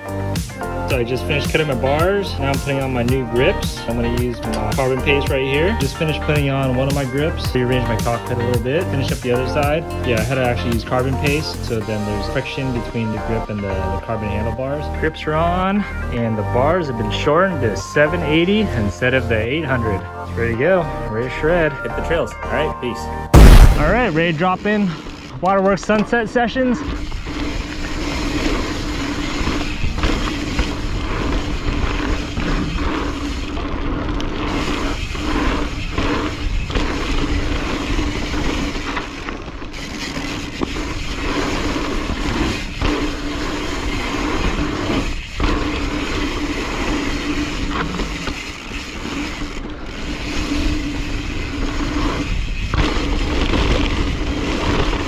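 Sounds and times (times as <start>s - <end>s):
bike tyres rolling over dirt: 0.0s - 22.6s, 23.4s - 55.0s.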